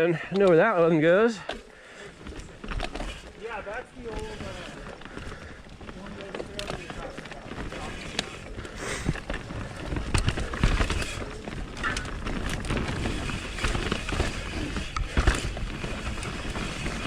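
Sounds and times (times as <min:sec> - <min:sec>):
bike tyres running over dirt: 0:00.0 - 0:17.0
bike knocking and rattling: 0:00.2 - 0:17.0.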